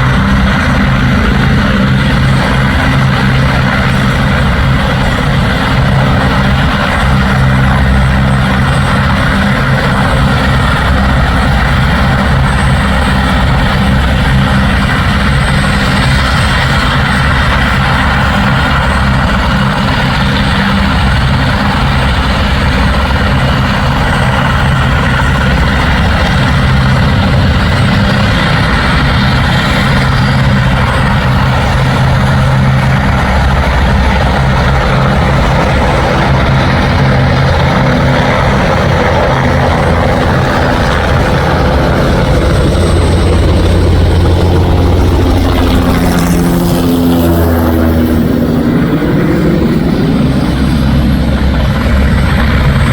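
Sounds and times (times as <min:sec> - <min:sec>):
helicopter rotor and engine: 0:00.0 - 0:52.9.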